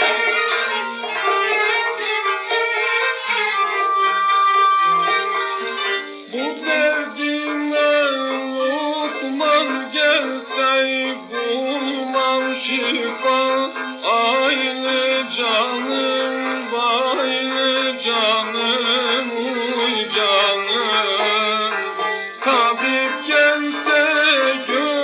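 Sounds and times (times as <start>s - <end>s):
old record of ornamented melody: 0.0s - 25.0s.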